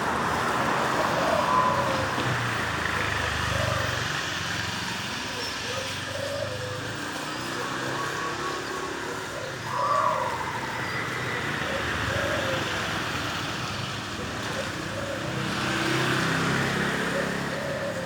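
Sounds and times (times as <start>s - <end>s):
road traffic noise: 0.0s - 18.0s
dove cooing: 0.5s - 18.0s.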